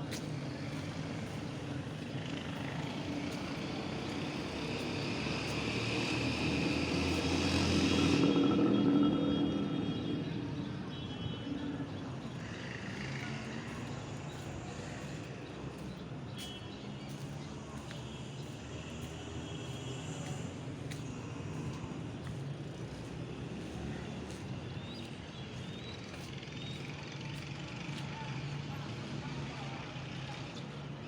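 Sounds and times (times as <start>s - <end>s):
traffic hum: 0.0s - 31.0s.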